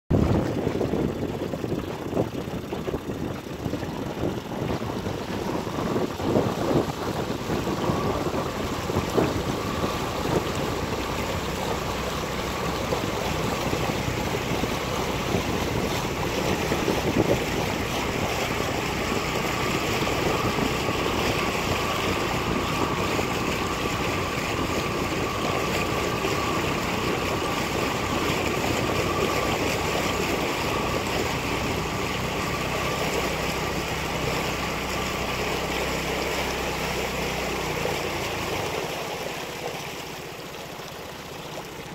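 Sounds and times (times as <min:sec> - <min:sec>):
wind buffeting microphone: 0:00.1 - 0:39.6
water lapping and splashing: 0:00.1 - 0:41.9
faint steady whine: 0:02.6 - 0:41.9.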